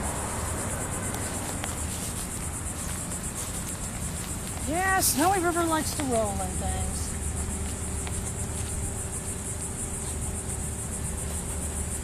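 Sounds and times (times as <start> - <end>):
insects chirring: 0.0 - 12.0
low steady rumble: 0.0 - 12.0.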